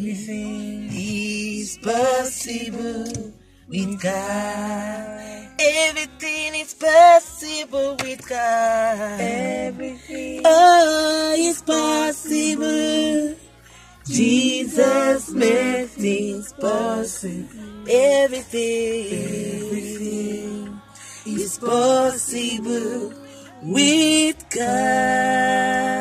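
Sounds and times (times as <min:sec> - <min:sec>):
woman singing: 0:00.0 - 0:13.4, 0:14.0 - 0:26.0.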